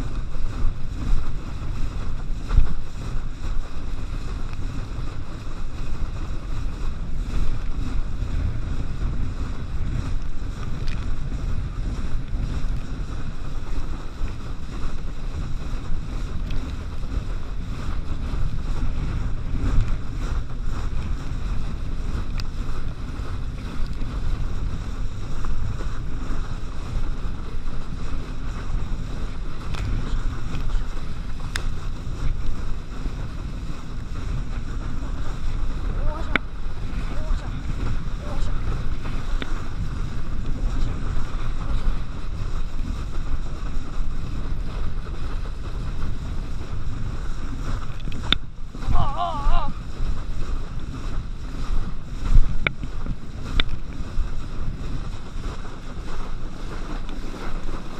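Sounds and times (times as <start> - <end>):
water rushing and splashing: 0.0 - 57.9
wind buffeting microphone: 0.0 - 57.9.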